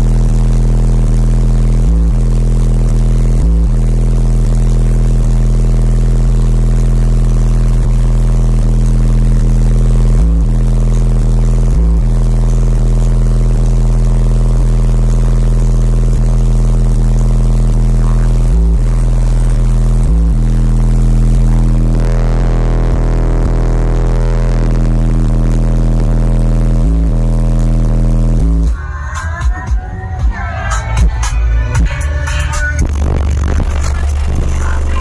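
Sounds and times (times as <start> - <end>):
deep bass tone from subwoofers: 0.0 - 35.0.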